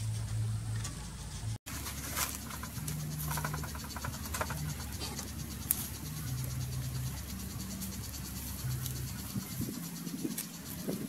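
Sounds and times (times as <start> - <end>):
insects chirring: 0.4 - 11.0.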